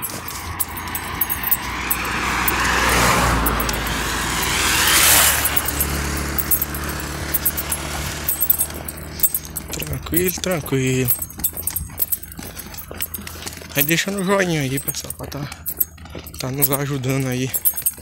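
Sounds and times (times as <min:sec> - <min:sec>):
faint clinking: 0:00.0 - 0:18.0
vehicle passing by: 0:00.0 - 0:18.0.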